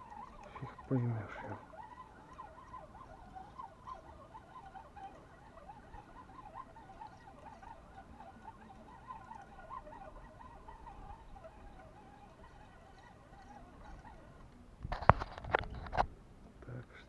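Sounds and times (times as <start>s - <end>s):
river current gurgling: 0.0s - 15.7s.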